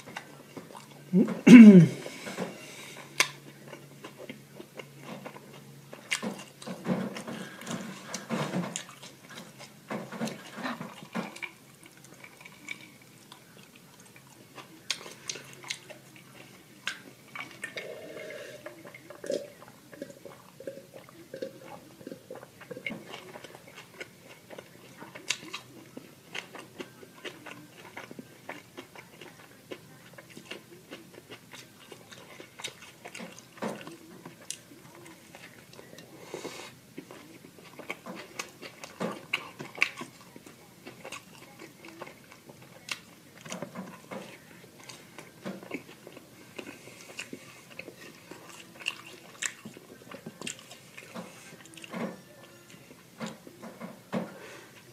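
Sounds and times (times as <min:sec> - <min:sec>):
chewing and eating crunches: 0:00.0 - 0:01.4, 0:02.1 - 0:54.9.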